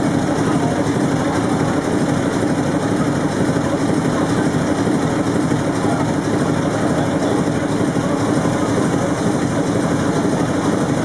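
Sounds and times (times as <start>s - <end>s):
large diesel engine running: 0.0s - 11.0s.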